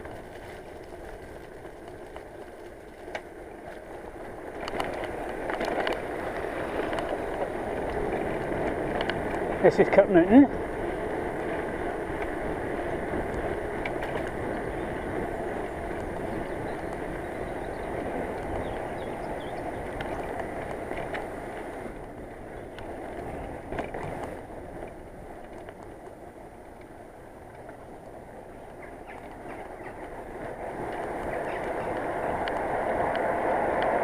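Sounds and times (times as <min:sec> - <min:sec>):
bicycle tyres rumbling on road: 0:00.0 - 0:34.0.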